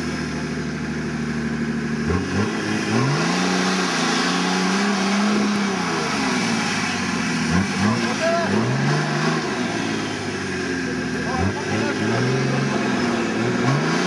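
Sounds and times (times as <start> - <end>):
truck engine revving: 1.9 - 14.0.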